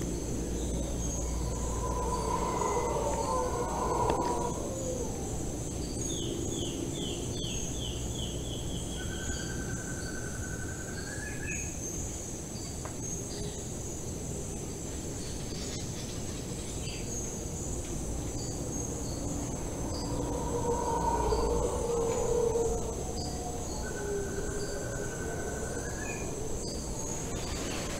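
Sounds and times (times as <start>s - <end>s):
bird singing: 0.0s - 12.0s, 15.2s - 27.9s
insects droning: 0.0s - 27.9s.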